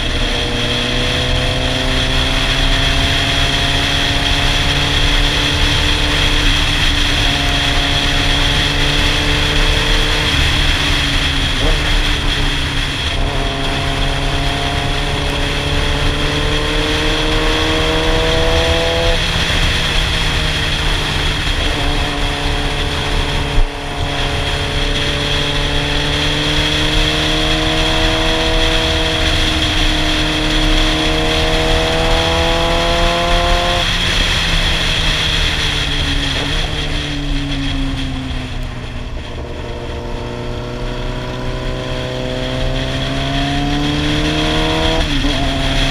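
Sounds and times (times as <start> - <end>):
motorcycle engine running: 0.0 - 45.9
wind rush: 0.0 - 45.9.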